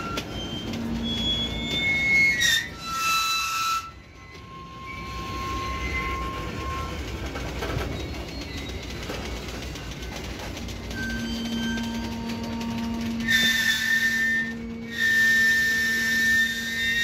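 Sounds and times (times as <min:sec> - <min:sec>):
faint wheel squeal: 0:00.0 - 0:17.0
freight train wheels rumbling: 0:00.0 - 0:17.0.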